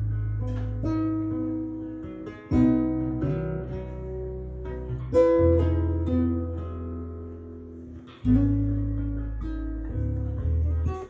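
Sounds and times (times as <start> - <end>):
acoustic guitar music over loudspeakers: 0.0 - 11.0.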